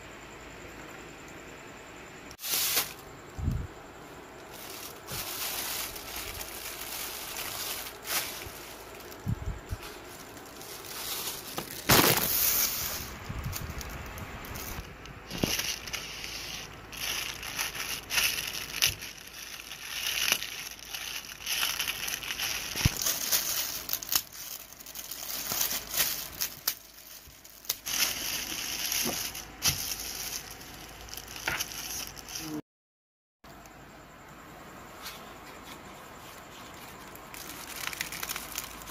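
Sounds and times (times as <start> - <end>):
foam sheet rustling: 2.4 - 3.1, 4.5 - 32.6, 35.0 - 38.9
plastic mailer bags crinkling: 2.4 - 3.2, 4.4 - 32.6, 35.8 - 38.9.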